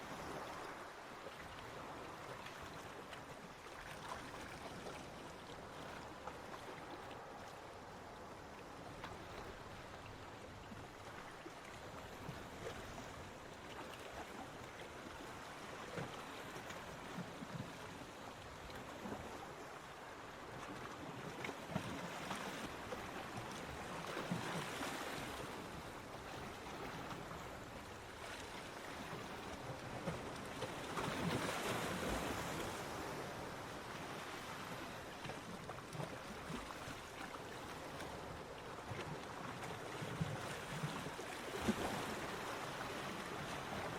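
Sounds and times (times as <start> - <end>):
waves washing onto beach: 0.0 - 43.9.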